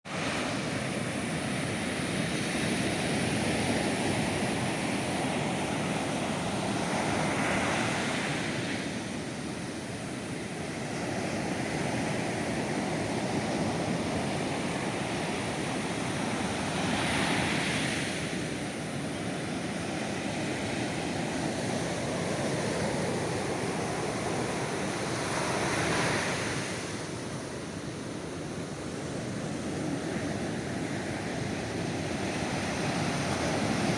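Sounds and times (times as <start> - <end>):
ocean waves washing: 0.1 - 33.9.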